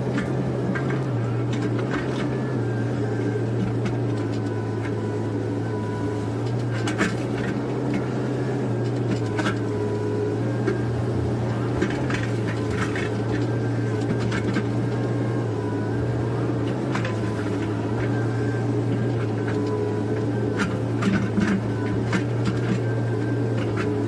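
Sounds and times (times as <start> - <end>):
excavator diesel engine running: 0.0 - 24.0
hydraulic whine: 0.0 - 24.0.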